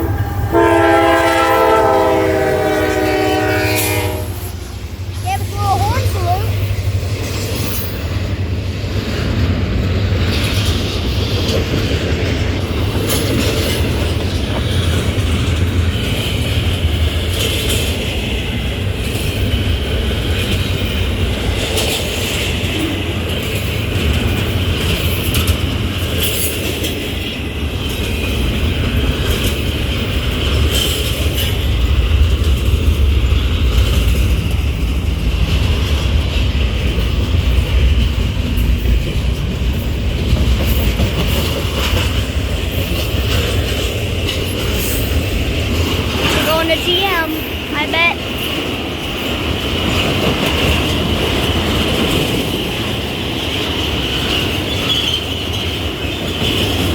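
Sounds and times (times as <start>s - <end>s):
freight train rumbling past: 0.0s - 56.9s
wheels clicking over rail joints: 4.4s - 56.9s.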